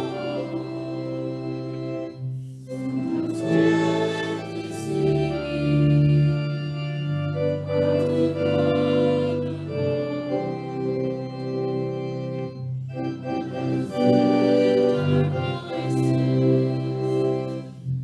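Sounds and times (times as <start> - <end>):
church organ playing chords: 0.0 - 18.0.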